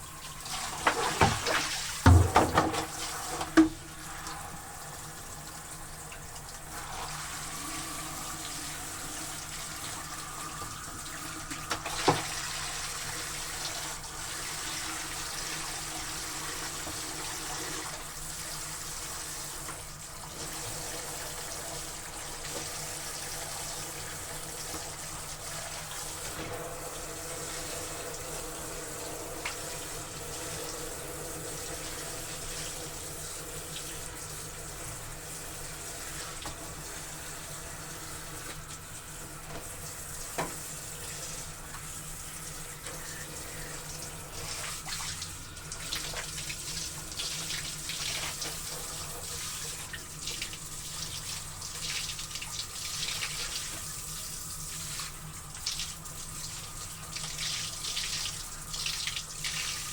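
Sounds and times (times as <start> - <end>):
water running from a tap: 0.0 - 59.9.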